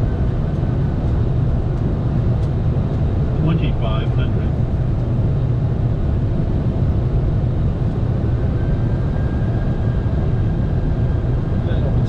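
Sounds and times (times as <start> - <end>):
aircraft engine and airflow rumble: 0.0 - 12.0.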